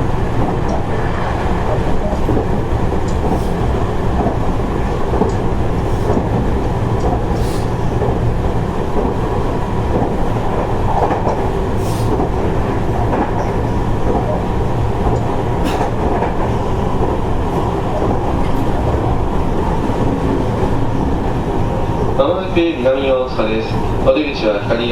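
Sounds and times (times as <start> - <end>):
train wheels rumbling on rail: 0.0 - 24.9.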